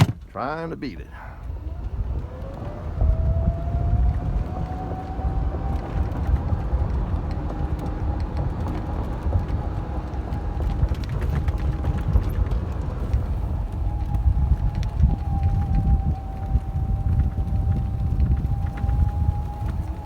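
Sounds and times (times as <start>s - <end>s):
wind buffeting microphone: 0.6s - 20.0s
cart rattles and clicks: 1.3s - 20.0s
golf cart motor whining: 1.3s - 20.0s.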